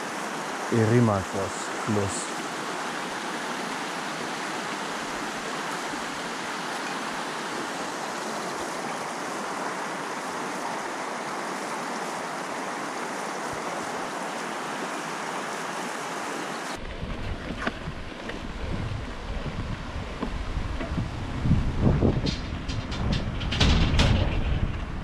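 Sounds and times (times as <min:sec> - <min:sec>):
river flowing: 0:00.0 - 0:21.7.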